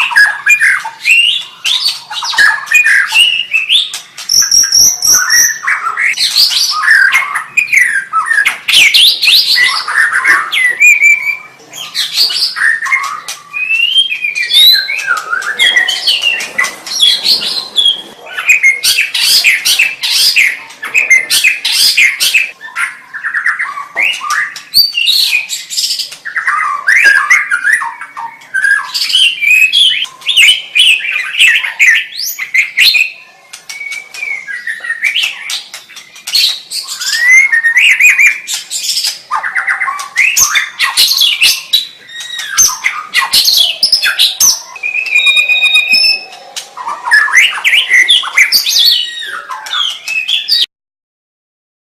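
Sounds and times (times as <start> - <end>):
bird singing whistles and trills: 0.0 - 50.7.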